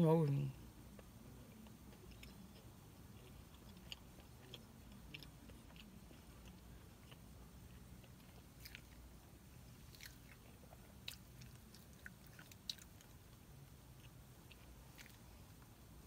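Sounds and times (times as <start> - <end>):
chewing crispy food: 0.9 - 16.0.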